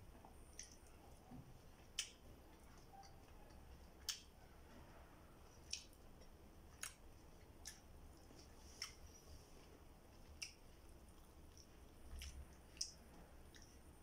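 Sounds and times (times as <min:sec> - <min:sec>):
chewing with wet lip smacks: 0:00.1 - 0:04.4, 0:05.4 - 0:09.2, 0:10.1 - 0:14.0.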